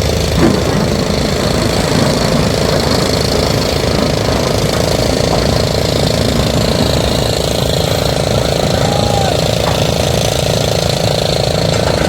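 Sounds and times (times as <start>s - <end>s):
heavy diesel engine clattering: 0.0s - 12.0s.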